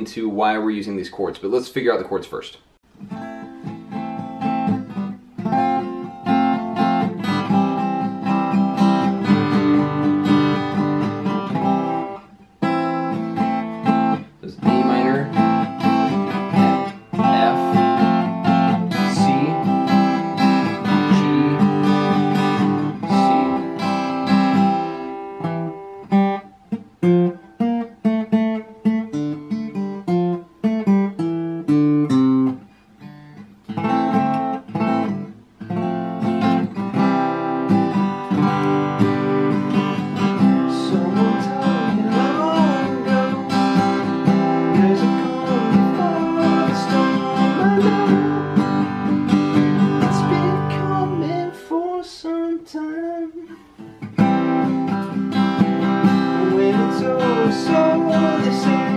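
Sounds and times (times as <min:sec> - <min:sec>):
acoustic guitar strumming: 0:02.8 - 0:58.9.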